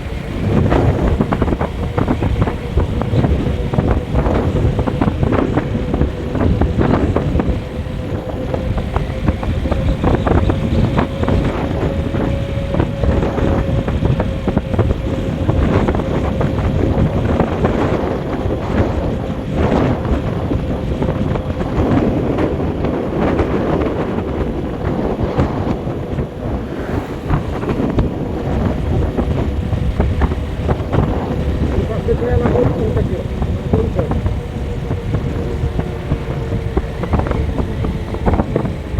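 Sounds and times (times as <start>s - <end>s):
vehicle engine and road rumble: 0.0s - 38.9s
wind buffeting microphone: 0.0s - 38.9s.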